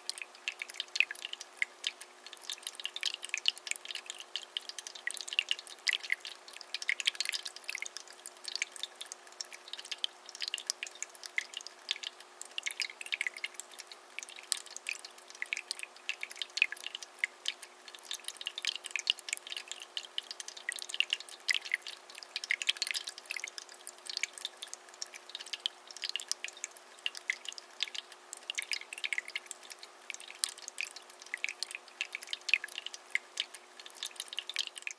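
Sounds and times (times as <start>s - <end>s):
faint steady hum: 0.0s - 34.9s
tabletop fountain water dripping: 0.0s - 34.9s.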